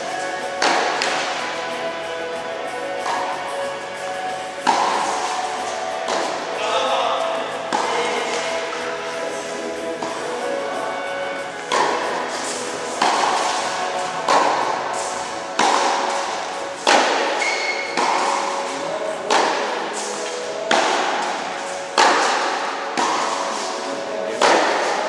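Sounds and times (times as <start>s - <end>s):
tennis racket hitting ball: 0.0s - 25.0s.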